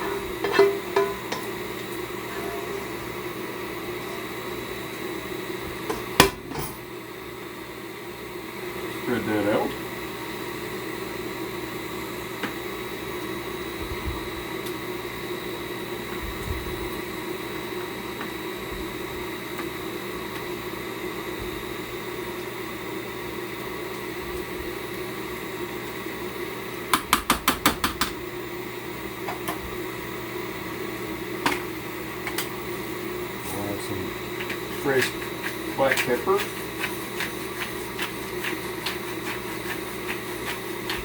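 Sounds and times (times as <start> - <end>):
kitchen fan humming: 0.0 - 41.0.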